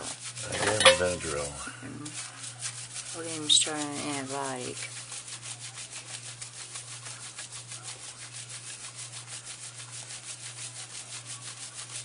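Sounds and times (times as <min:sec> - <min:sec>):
scrubbing dog's coat: 0:00.0 - 0:12.0.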